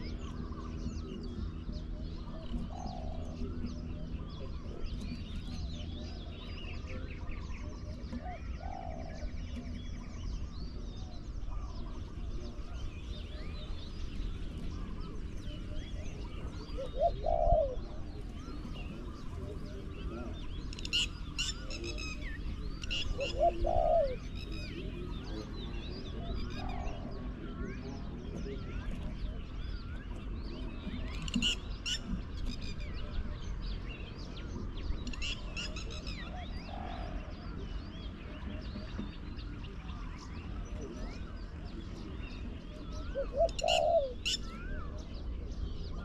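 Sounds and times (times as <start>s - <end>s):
doves cooing: 0.0s - 46.0s
small birds chirping: 0.0s - 46.0s.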